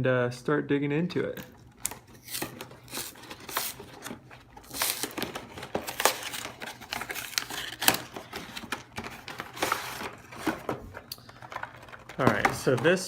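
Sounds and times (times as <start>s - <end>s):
packaging crinkling and rustling: 1.6s - 13.0s.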